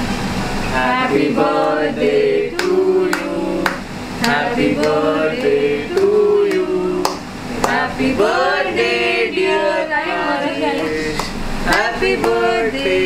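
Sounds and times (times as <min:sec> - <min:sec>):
voices singing together: 0:00.7 - 0:13.0.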